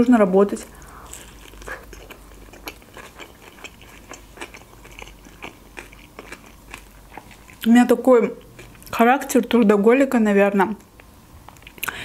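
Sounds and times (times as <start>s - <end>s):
chewing with mouth clicks: 0.8s - 9.4s, 10.8s - 12.0s.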